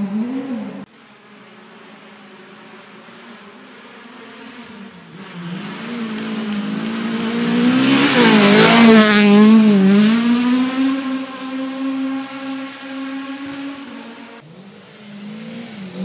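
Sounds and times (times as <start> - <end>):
rally car engine passing: 1.4 - 16.0.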